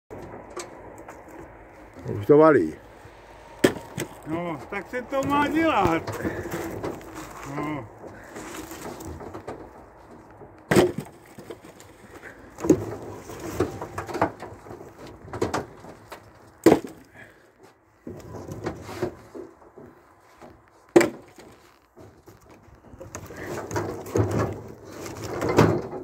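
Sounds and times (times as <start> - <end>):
firewood logs knocking: 3.5 - 26.0.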